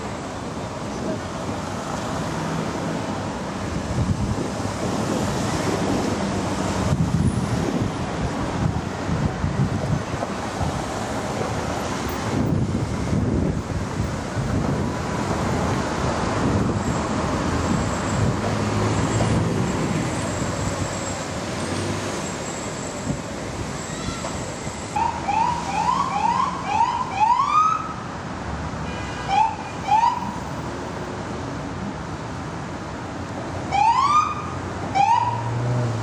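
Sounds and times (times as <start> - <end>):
city traffic noise: 0.0 - 36.0.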